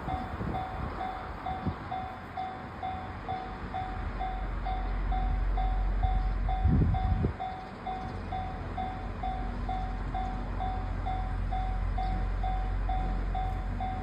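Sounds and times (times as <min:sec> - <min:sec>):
diesel train rumbling past: 0:00.0 - 0:14.0
level-crossing alarm dinging: 0:00.1 - 0:14.0.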